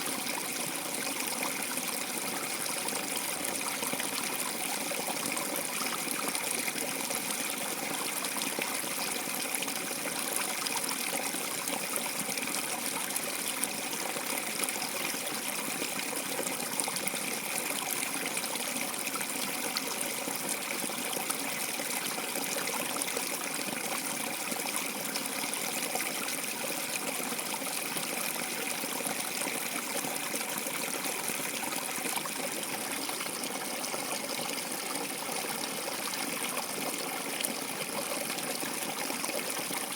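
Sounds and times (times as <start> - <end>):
water trickling: 0.1 - 39.9.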